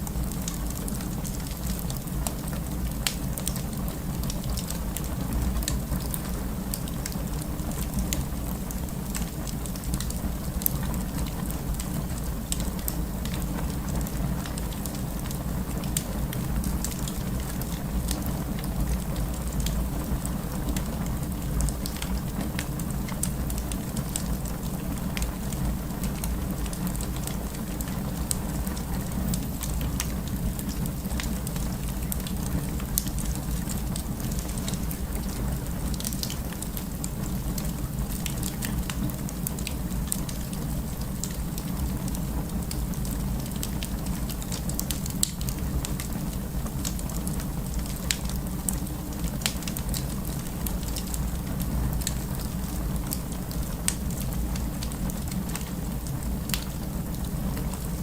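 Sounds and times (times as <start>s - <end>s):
fire crackling: 0.0s - 58.0s.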